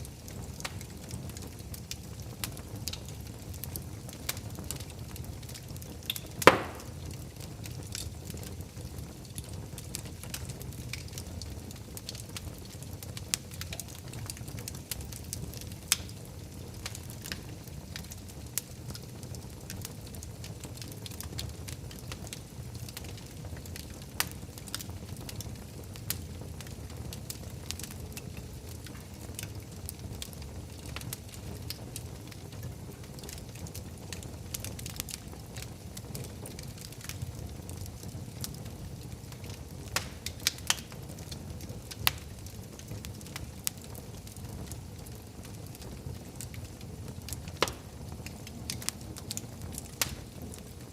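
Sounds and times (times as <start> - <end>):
fire popping: 0.0 - 50.9
wood fire crackling: 0.0 - 50.9.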